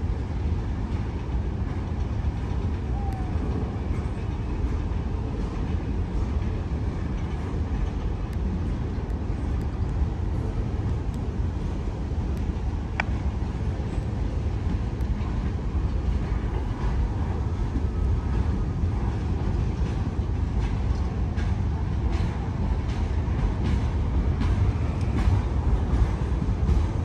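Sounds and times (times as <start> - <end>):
freight train cars rumbling: 0.0 - 27.0
train wheel clicks: 3.5 - 27.0.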